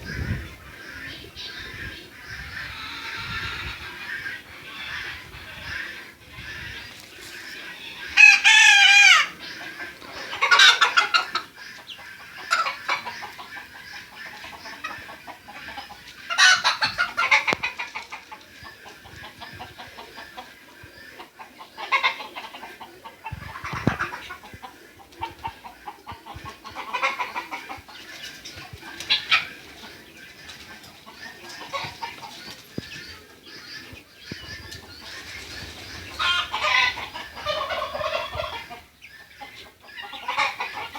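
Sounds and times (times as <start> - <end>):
chicken drawn-out call: 0.0 - 40.9
chickens clucking: 0.0 - 40.9.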